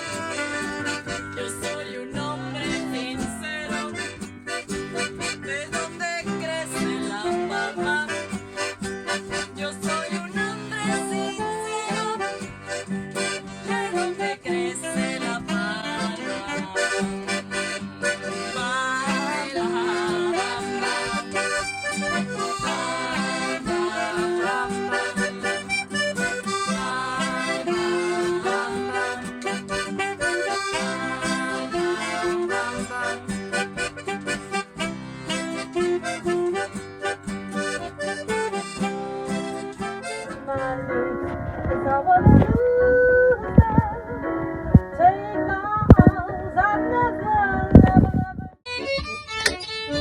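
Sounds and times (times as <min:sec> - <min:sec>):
instrumental music: 0:00.0 - 0:50.0.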